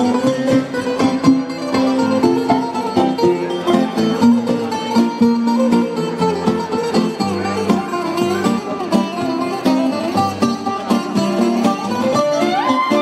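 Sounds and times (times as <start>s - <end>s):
plucked string band dance tune: 0.0s - 13.0s.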